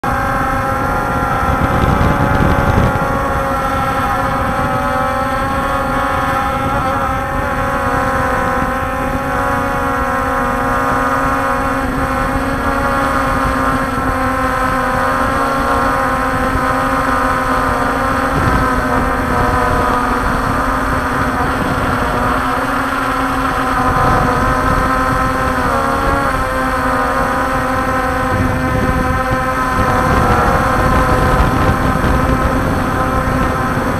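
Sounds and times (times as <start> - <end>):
drone propellers humming: 0.0 - 33.9
wind rumble on microphone: 0.0 - 33.9.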